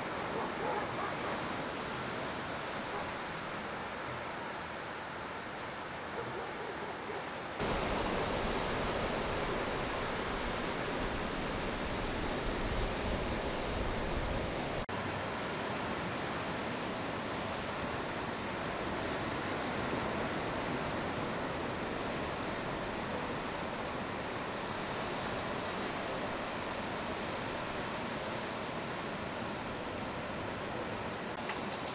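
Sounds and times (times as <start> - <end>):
ocean waves breaking: 0.0 - 5.4, 6.1 - 31.9.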